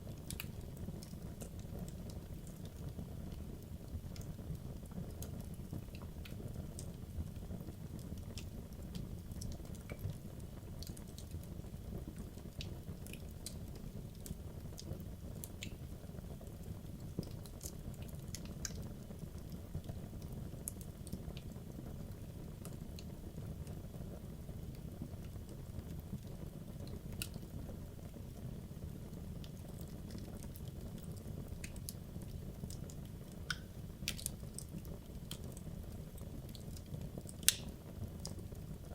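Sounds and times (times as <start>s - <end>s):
burning wood crackling and popping: 0.0s - 38.9s
low rumble of flame: 0.0s - 38.9s.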